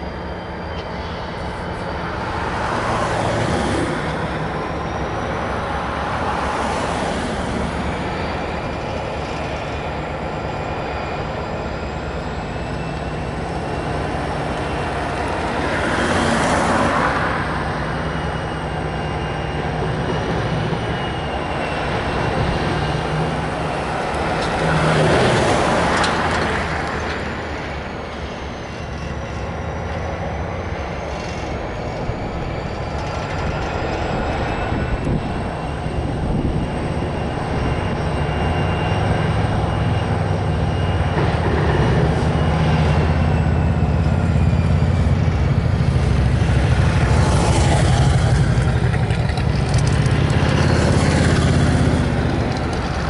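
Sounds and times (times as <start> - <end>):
diesel locomotive running: 0.0 - 53.0
high wheel squeal: 0.0 - 53.0.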